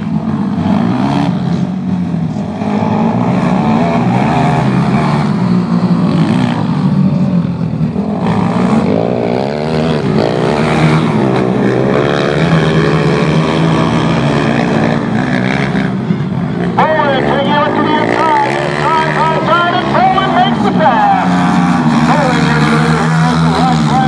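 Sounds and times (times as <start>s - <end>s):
racing motorcycle engines: 0.0s - 24.0s.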